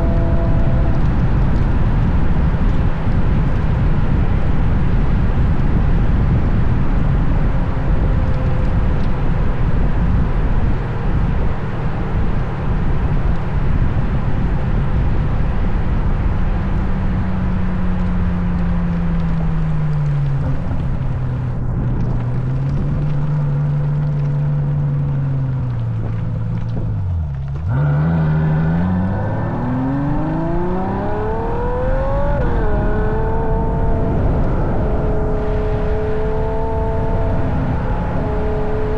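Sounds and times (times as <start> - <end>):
car engine drone: 0.0 - 38.9
wind noise: 0.0 - 38.9.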